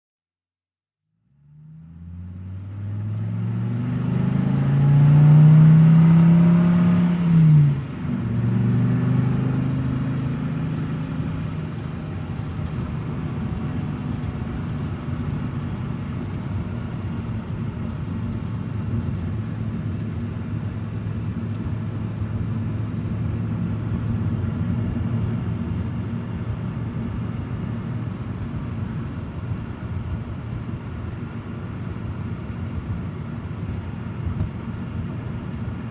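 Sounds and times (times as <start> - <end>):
car engine driving slowly: 1.2 - 35.9.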